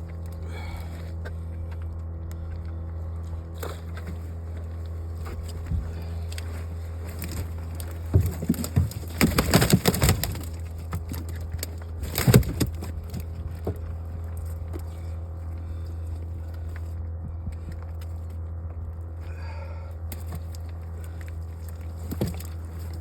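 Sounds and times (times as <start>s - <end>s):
boat motor idling: 0.0s - 23.0s.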